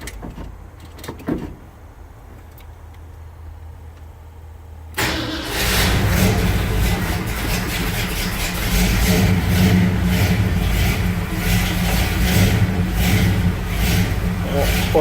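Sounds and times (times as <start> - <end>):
truck engine running: 2.0 - 15.0.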